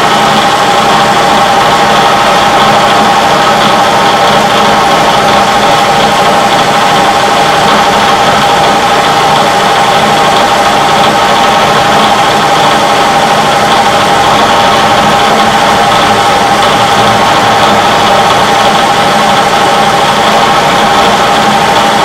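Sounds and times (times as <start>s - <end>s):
machine tool motor whine: 0.0s - 22.0s.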